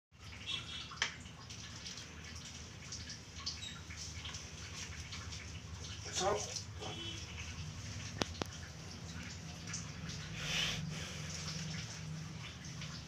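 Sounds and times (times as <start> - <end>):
water splashing and dripping: 0.1 - 13.0.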